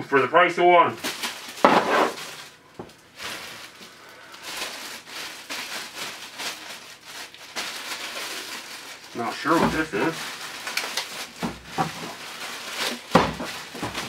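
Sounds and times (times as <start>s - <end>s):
plastic bag crinkling: 1.0s - 14.0s.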